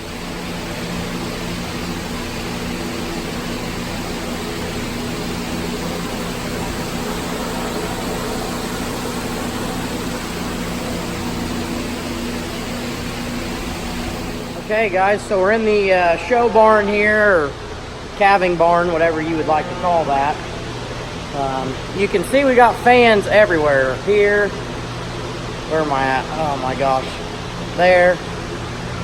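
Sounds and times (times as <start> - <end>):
ventilation fans running: 0.0 - 29.0.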